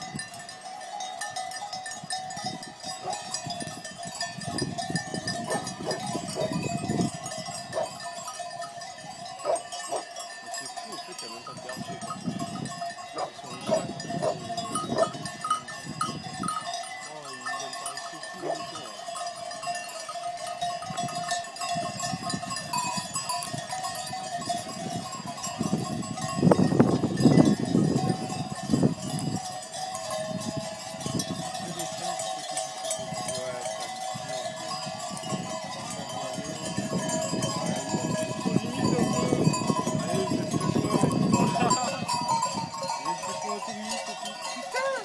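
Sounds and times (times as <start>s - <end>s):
sheep bells clanking: 0.0s - 45.0s.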